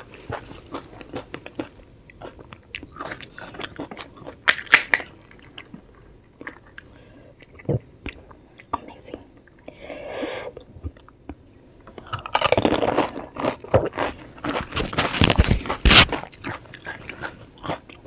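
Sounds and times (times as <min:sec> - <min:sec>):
crunchy food chewing: 0:00.0 - 0:08.8, 0:11.9 - 0:18.0.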